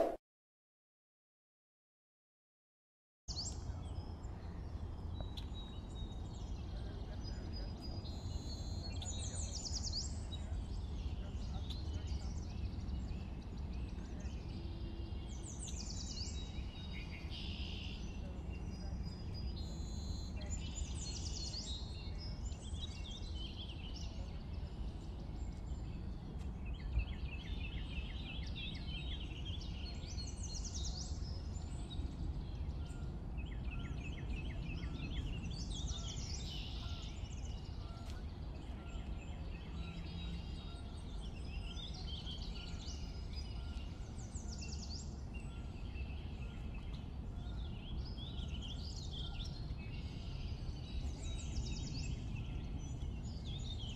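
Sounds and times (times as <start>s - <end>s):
songbirds singing: 3.3s - 53.9s.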